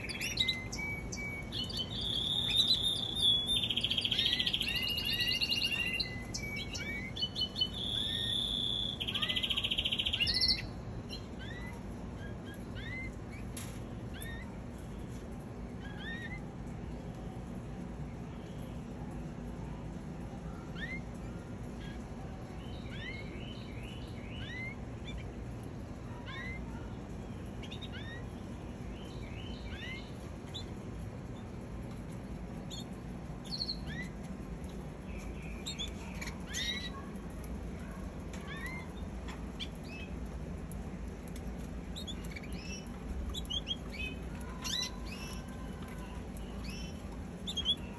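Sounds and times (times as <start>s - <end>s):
canaries chirping: 0.0s - 16.8s, 20.6s - 47.9s.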